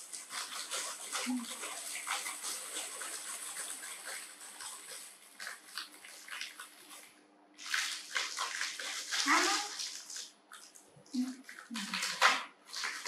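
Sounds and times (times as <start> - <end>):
dry noodles crunching: 0.0 - 10.8, 11.4 - 13.0.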